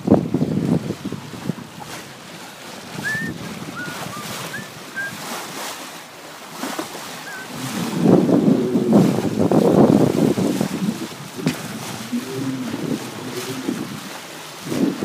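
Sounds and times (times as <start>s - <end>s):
wind buffeting microphone: 0.0s - 5.4s, 7.3s - 15.0s
water washing along hull: 0.0s - 15.0s.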